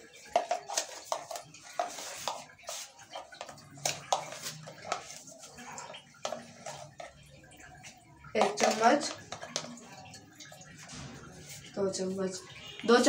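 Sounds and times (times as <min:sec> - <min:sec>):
spoon scraping a container: 0:00.0 - 0:11.7.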